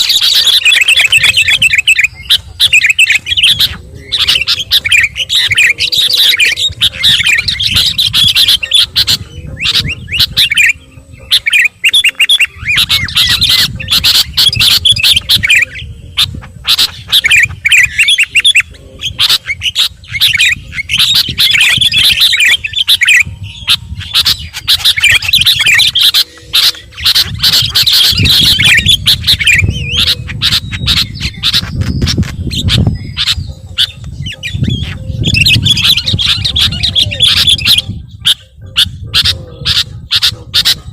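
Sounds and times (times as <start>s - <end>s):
baby birds squawking: 0.0s - 40.9s.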